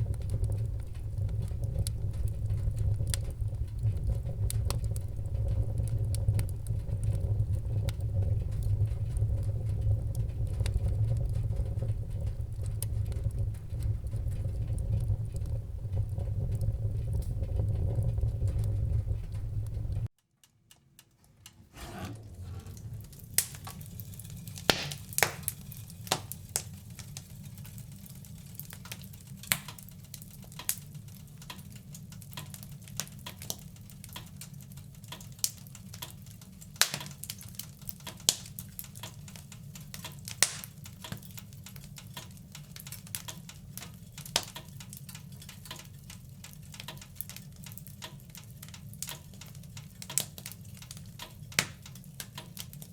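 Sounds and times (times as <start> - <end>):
fire low rumble: 0.0 - 20.1, 21.4 - 52.9
fire crackling and popping: 0.0 - 52.9.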